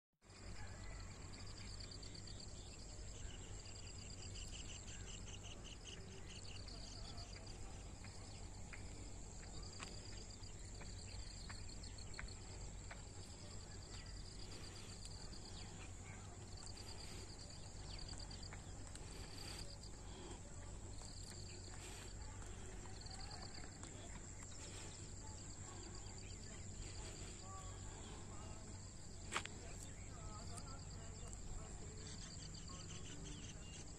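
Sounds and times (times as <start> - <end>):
insects droning: 0.3 - 33.9.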